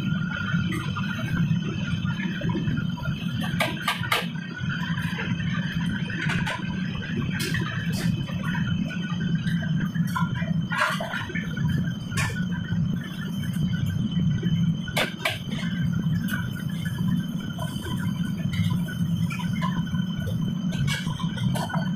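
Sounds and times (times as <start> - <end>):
wok burner roaring: 0.0 - 21.9.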